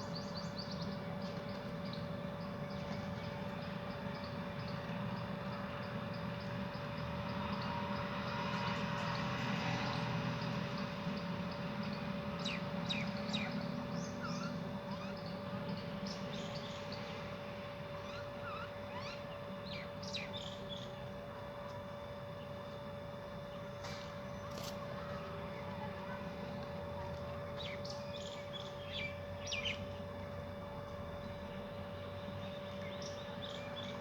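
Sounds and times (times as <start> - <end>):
constant hum: 0.0 - 34.0.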